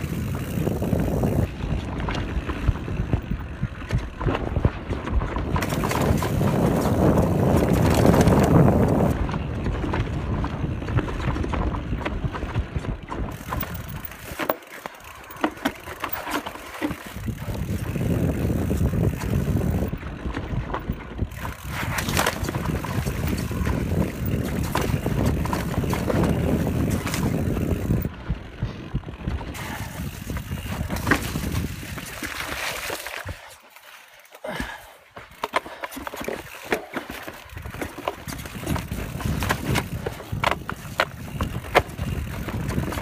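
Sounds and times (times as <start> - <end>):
rumble of tyres and wind: 0.0 - 33.7, 34.5 - 43.0
bike rattling clicks and knocks: 0.0 - 43.0.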